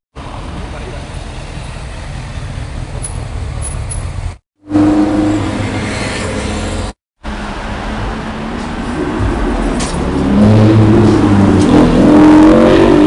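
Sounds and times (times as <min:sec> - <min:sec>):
low traffic rumble: 0:00.2 - 0:13.0.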